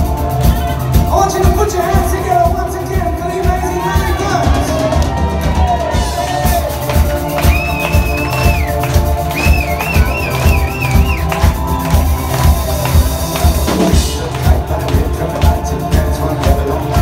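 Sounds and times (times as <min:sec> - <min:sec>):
drum beat: 0:00.0 - 0:17.0
live rock band playing: 0:00.0 - 0:17.0.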